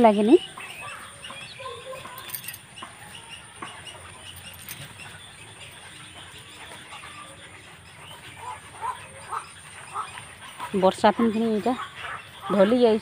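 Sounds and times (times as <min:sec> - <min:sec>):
bird calls: 0:00.0 - 0:13.0.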